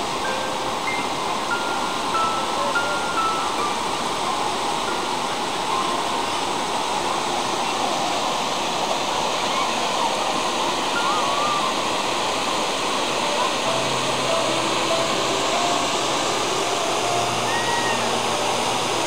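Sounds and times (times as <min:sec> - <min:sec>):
white water over rapids: 0:00.0 - 0:19.0.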